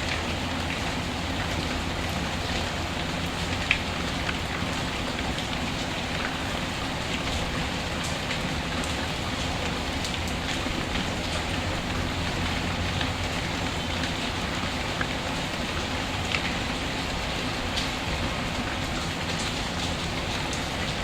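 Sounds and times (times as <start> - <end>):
steady rain hissing: 0.0 - 21.0.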